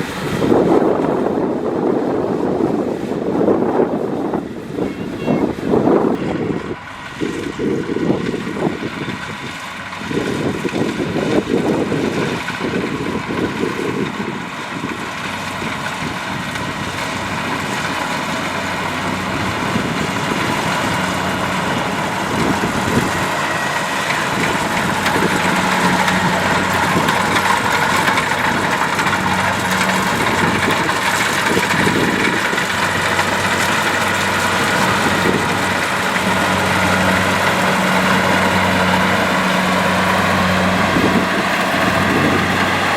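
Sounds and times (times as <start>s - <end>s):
diesel engine of combine harvester: 0.0s - 42.9s
wind rumbling on microphone: 0.0s - 42.9s.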